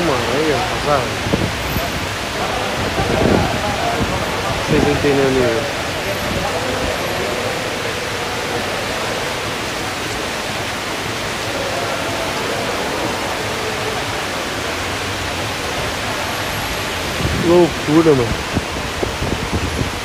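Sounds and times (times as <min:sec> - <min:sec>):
heavy rain: 0:00.0 - 0:20.0
strong gusting wind: 0:00.0 - 0:20.0.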